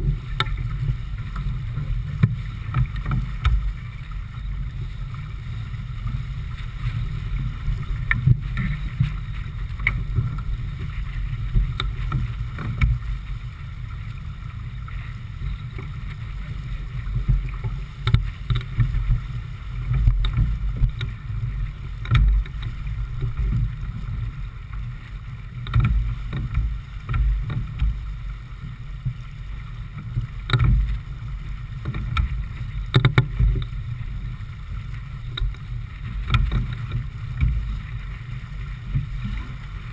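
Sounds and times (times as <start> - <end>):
water rushing along hull: 0.0 - 39.9
water slapping against hull: 0.0 - 39.9.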